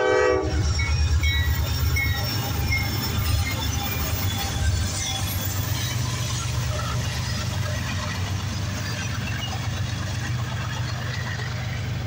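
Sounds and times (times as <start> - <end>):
freight cars rolling on rails: 0.0 - 12.0
locomotive engine rumbling: 0.0 - 12.0.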